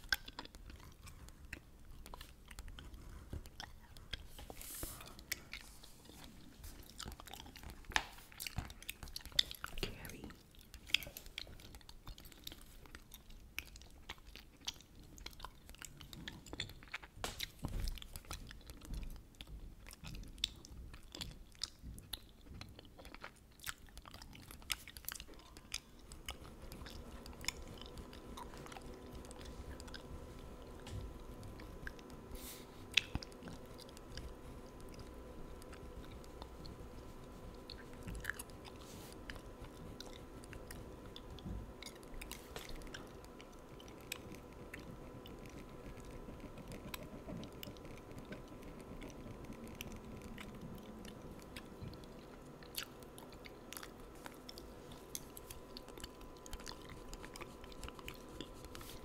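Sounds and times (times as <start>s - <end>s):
faint steady hum: 0.0s - 59.0s
gum chewing wet smacks: 0.0s - 59.0s.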